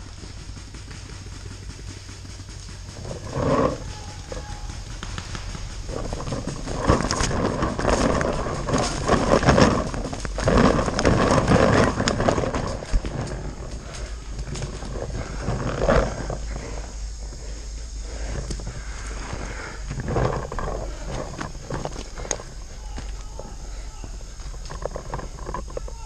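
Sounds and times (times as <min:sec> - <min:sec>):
hard breathing: 0:02.1 - 0:25.9.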